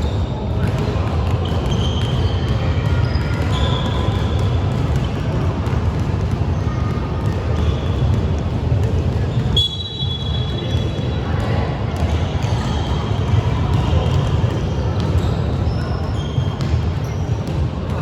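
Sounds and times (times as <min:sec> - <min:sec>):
low rumble in large hall: 0:00.0 - 0:18.0
sneakers squeaking: 0:00.0 - 0:18.0
basketball bouncing: 0:00.5 - 0:11.0, 0:12.0 - 0:18.0.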